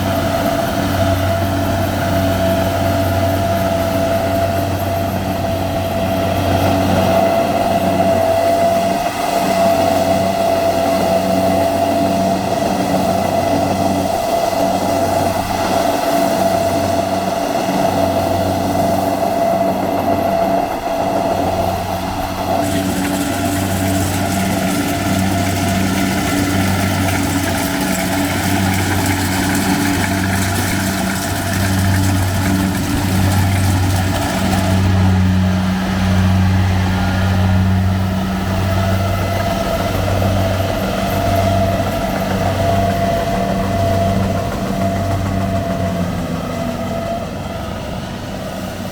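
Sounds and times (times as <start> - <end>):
combine harvester engine hum: 0.0 - 48.9.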